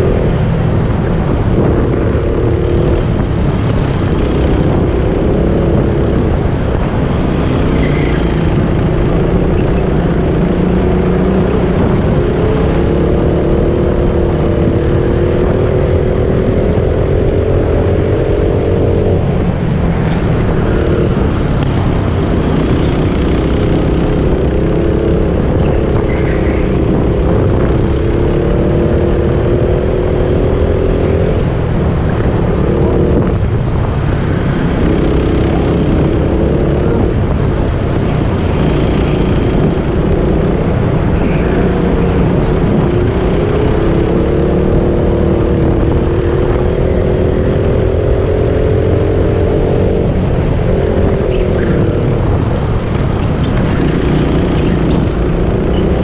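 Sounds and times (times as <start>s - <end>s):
go-kart engine at full throttle: 0.0s - 56.0s.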